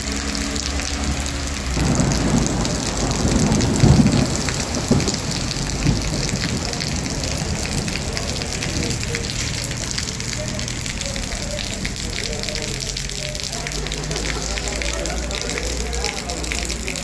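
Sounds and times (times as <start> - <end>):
heavy rain pattering: 0.0 - 17.0.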